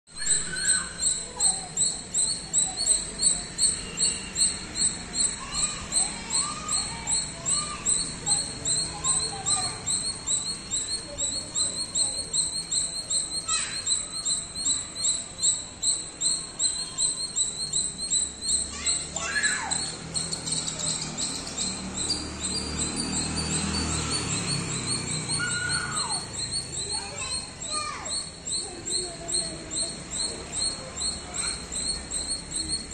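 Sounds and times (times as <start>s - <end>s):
soft bird-like calls: 0.1s - 32.9s
squirrel chirping: 0.1s - 32.9s.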